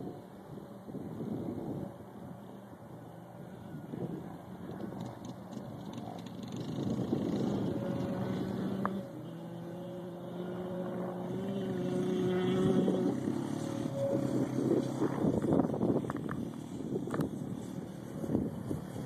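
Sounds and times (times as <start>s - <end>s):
two-stroke dirt bike engine: 3.0s - 19.0s.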